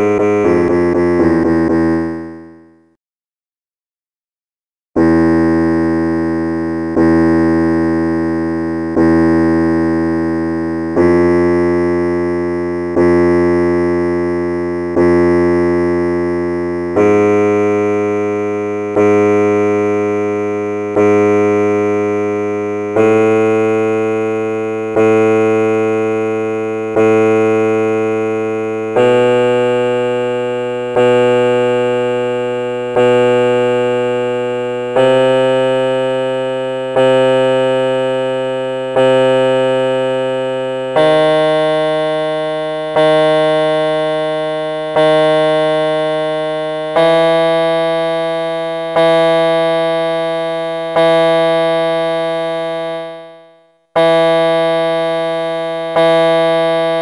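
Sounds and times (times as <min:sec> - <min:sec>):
piano-toned keyboard notes: 0:00.0 - 0:02.6, 0:05.0 - 0:57.0.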